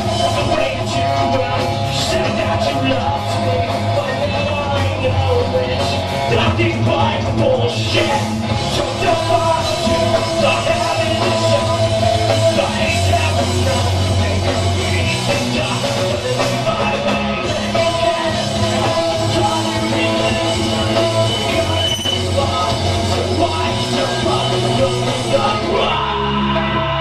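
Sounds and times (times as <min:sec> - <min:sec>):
person singing: 0:00.0 - 0:27.0
rock band playing: 0:00.0 - 0:27.0.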